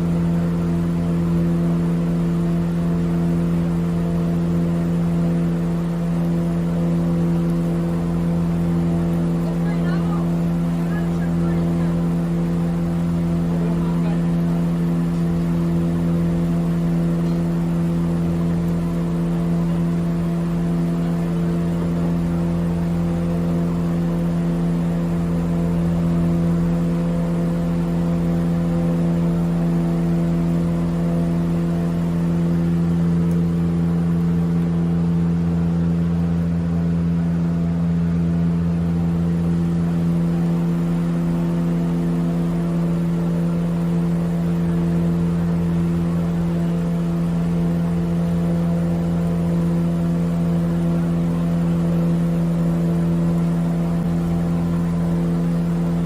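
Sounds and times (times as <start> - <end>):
motor droning: 0.0 - 56.0.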